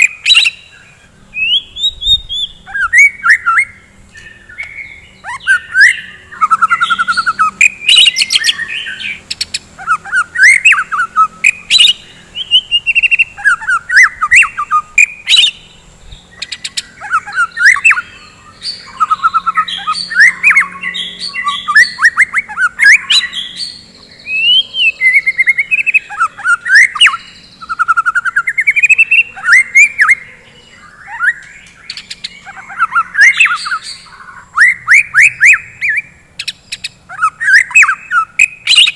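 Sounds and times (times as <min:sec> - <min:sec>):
bird singing loudly: 0:00.0 - 0:38.9.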